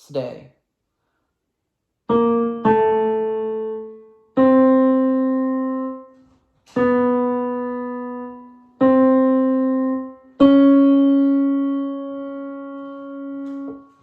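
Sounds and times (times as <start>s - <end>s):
piano single notes: 2.1s - 14.0s.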